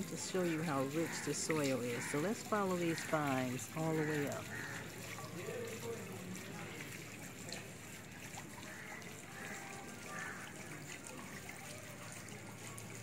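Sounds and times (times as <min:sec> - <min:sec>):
faint trickle of water: 0:00.0 - 0:13.0.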